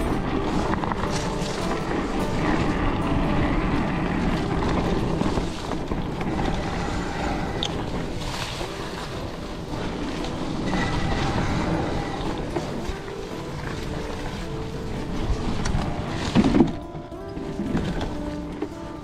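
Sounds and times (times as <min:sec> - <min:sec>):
bike tyres rumbling on dirt trail: 0:00.0 - 0:19.0
wind on microphone: 0:00.0 - 0:19.0.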